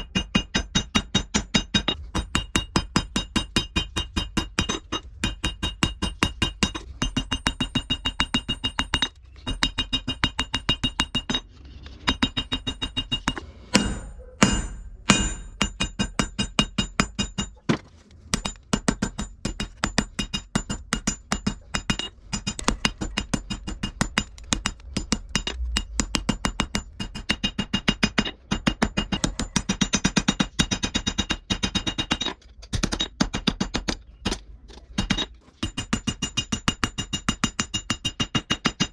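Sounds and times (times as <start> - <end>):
hammer on anvil: 0.0 - 17.6, 18.3 - 34.4, 35.0 - 38.9.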